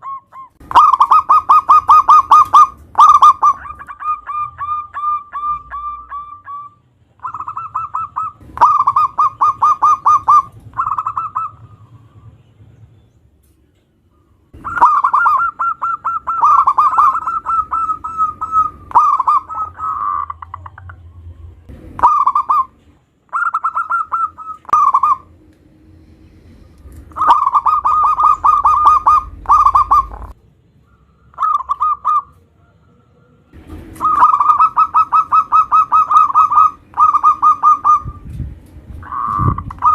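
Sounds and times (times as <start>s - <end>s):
dove cooing: 0.0s - 12.2s, 14.5s - 21.2s, 22.0s - 25.4s, 27.0s - 38.2s, 39.0s - 39.9s.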